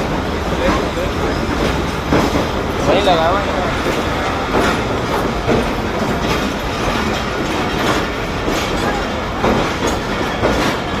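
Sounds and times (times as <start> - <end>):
train coaches rumbling: 0.0 - 11.0
wheels clacking over rail joints: 0.0 - 11.0.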